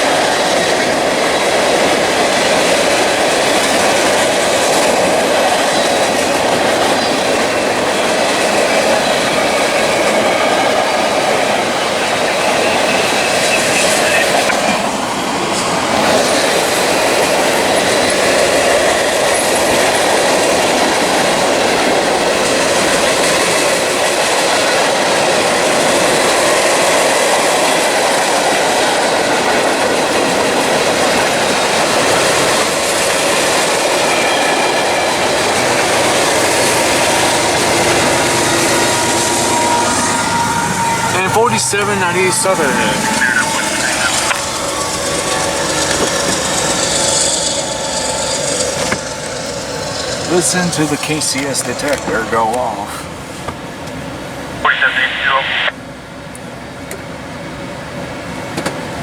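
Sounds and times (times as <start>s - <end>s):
freight train wheels clattering: 0.0s - 54.5s.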